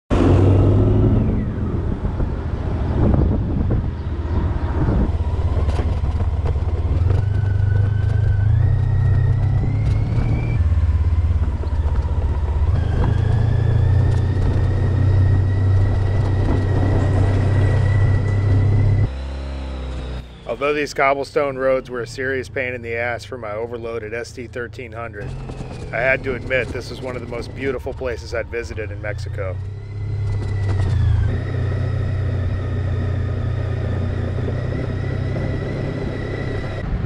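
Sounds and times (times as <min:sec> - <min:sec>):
motorcycle engine riding: 0:00.1 - 0:37.0
rising engine whine: 0:00.1 - 0:37.0.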